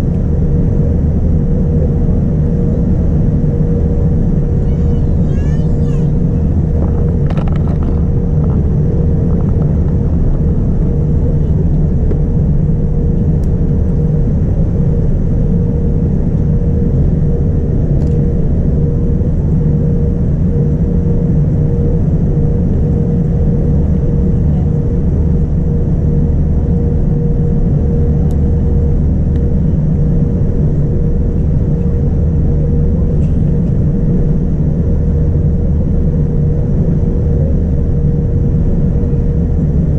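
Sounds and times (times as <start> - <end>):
constant cabin hum: 0.0 - 39.9
jet engine rumble and airflow: 0.0 - 39.9.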